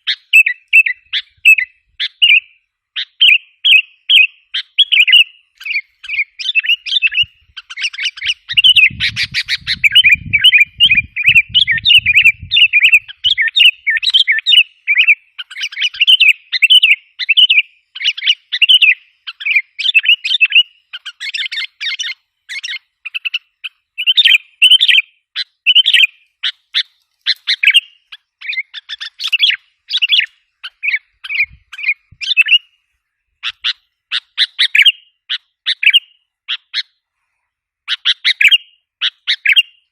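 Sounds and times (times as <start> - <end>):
bulbul chattering chirps: 0.0 - 32.8, 33.4 - 37.0.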